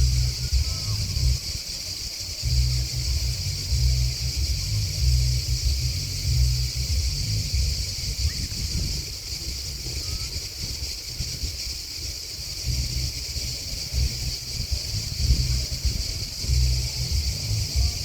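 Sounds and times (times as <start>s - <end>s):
insects singing: 0.0s - 18.0s
wind rumble on microphone: 0.0s - 18.0s.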